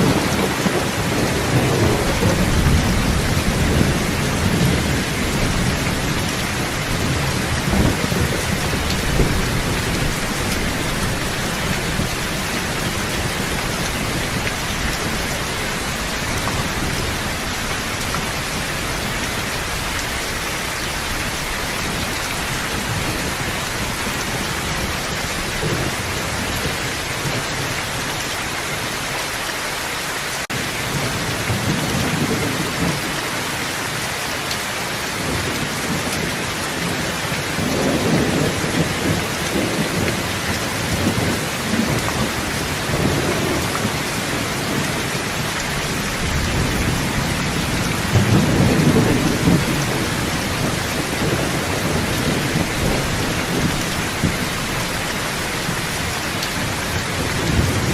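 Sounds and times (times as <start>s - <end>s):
low thunder rumble: 0.0s - 27.5s, 35.2s - 57.9s
heavy rain: 0.0s - 57.9s.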